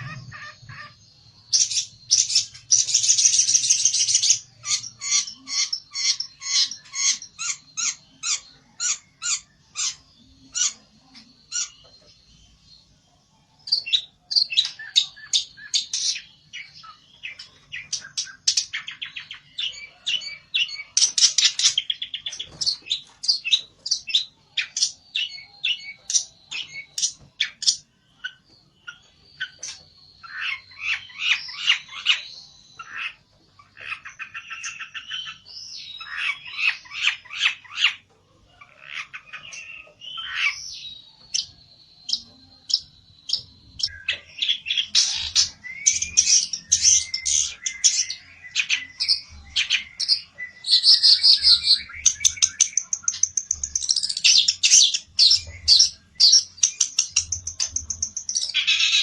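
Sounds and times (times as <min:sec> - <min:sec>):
harsh rasping bird calls: 0:00.0 - 0:12.4, 0:13.6 - 0:59.0.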